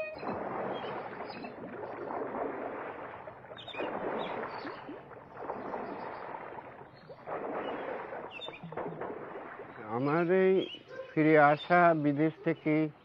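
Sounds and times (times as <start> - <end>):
water swishing around a boat: 0.0 - 13.0.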